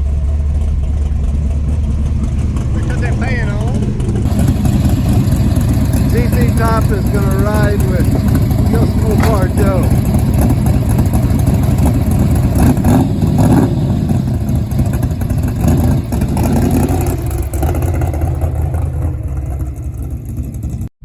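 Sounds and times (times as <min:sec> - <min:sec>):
drag car engine running loud: 0:00.0 - 0:20.9.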